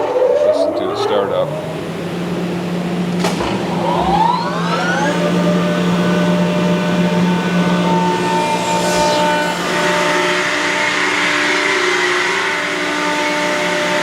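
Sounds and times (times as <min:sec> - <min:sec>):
air compressor running: 0:01.1 - 0:14.0.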